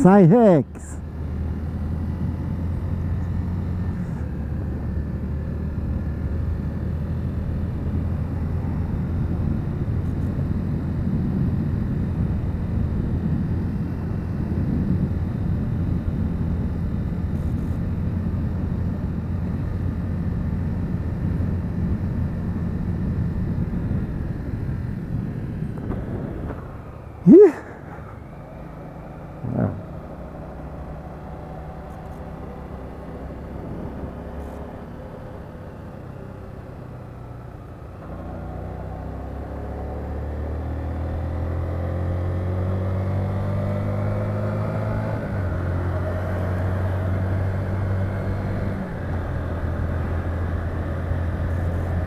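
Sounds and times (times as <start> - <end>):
motorcycle engine running: 0.0 - 52.0
road and wind noise: 0.0 - 52.0.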